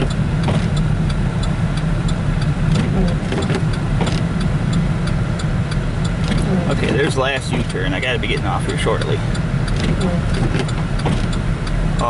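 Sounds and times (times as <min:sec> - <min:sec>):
car engine and tyres rumbling: 0:00.0 - 0:12.0
light ticks and taps: 0:00.0 - 0:12.0.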